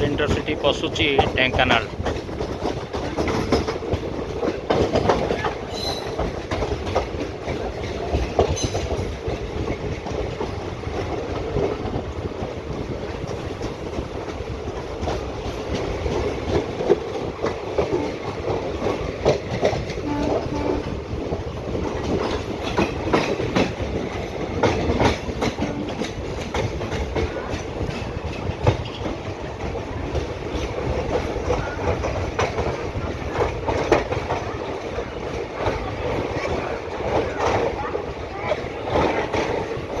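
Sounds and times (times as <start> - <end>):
train wheels rumbling on rails: 0.0 - 40.0
wheels clicking over rail joints: 0.0 - 40.0.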